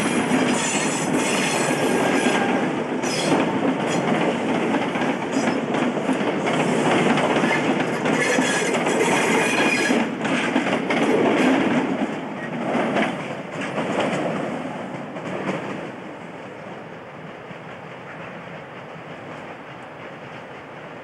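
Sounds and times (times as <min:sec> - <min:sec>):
low steady train rumble: 0:00.0 - 0:21.0.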